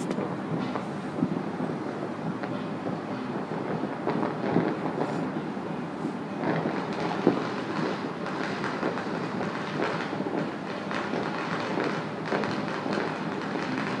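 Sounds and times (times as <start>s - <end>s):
loud firework bang: 0.0s - 5.4s, 6.4s - 14.0s
distant fireworks crackling: 0.0s - 14.0s.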